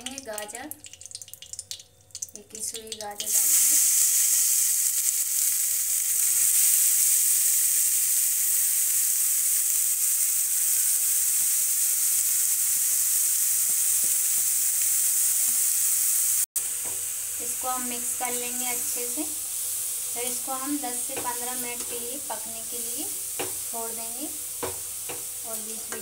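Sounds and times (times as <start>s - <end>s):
carrots sizzling in hot ghee: 0.0s - 26.0s.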